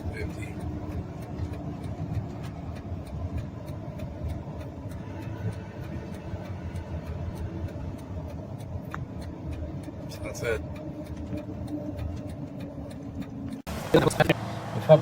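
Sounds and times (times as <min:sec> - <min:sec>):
tire and road rumble: 0:00.0 - 0:15.0.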